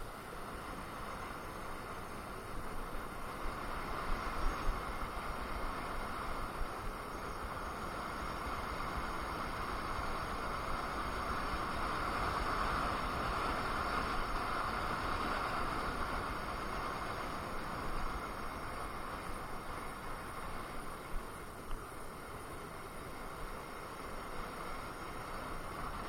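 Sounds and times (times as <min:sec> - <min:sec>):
wind and road rushing hiss: 0:00.0 - 0:26.0.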